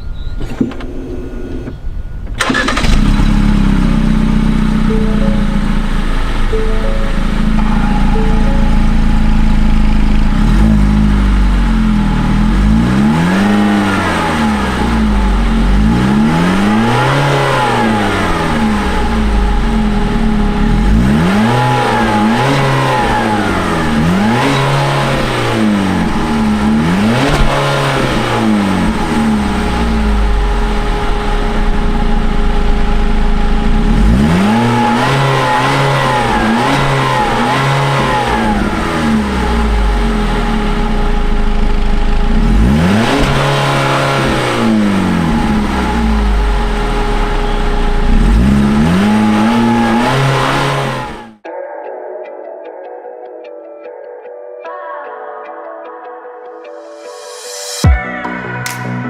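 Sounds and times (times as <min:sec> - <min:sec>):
car engine idling: 0:00.9 - 0:51.4
car engine revving: 0:02.3 - 0:51.4.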